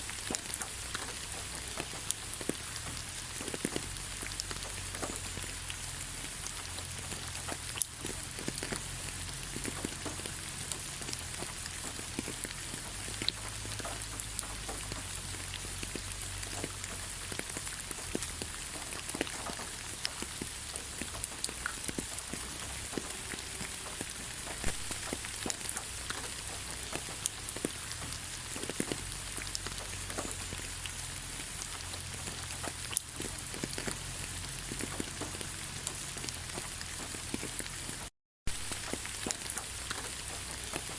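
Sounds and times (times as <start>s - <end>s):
light rain on leaves: 0.0s - 40.9s.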